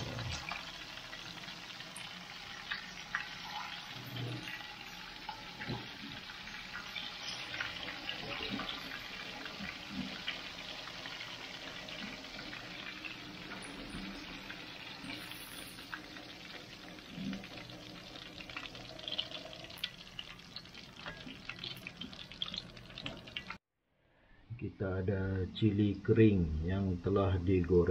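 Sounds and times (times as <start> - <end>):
crabs sizzling in hot oil: 0.0 - 23.6.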